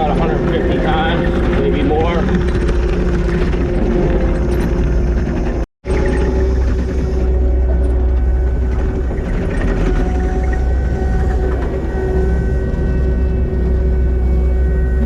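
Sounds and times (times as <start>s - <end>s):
skid steer diesel engine running: 0.0s - 15.0s.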